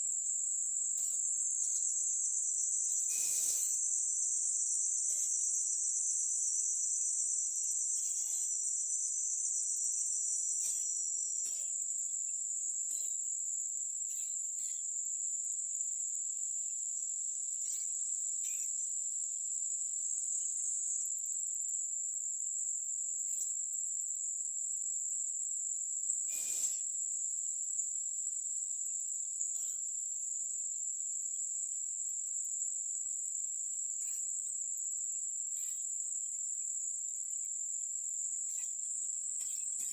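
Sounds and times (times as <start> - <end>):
insects droning high-pitched: 0.0 - 39.9
lower-pitched insect chorus: 0.0 - 39.9.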